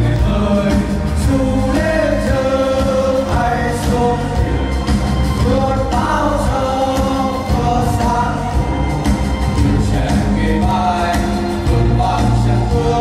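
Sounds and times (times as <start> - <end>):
backing track with heavy bass: 0.0 - 13.0
group of voices singing: 0.0 - 13.0.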